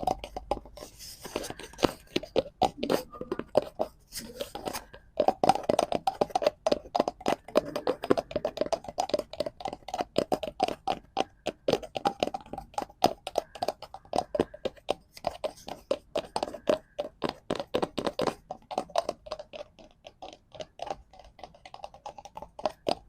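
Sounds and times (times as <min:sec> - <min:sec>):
tapping on cardboard: 0:00.0 - 0:23.0.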